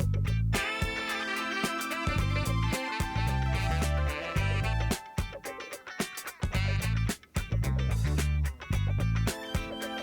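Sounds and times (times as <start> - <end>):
music with bass guitar and drums: 0.0 - 10.0.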